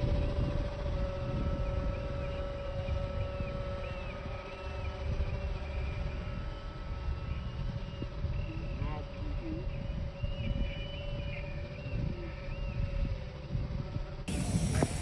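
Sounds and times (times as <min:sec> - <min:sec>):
electric model airplane motor whine: 0:00.0 - 0:15.0
wind rumbling on microphone: 0:00.0 - 0:15.0.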